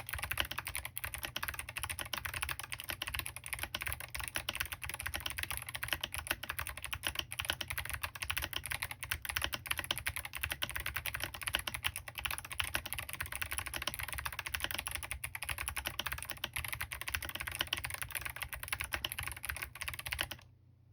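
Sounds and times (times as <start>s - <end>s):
mechanical keyboard typing clicks: 0.0s - 20.5s.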